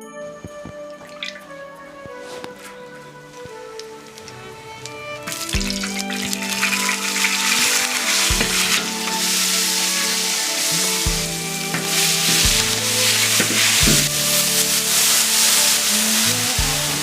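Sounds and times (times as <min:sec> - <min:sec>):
background music: 0:00.0 - 0:17.0
food sizzling in a pan: 0:00.9 - 0:17.0.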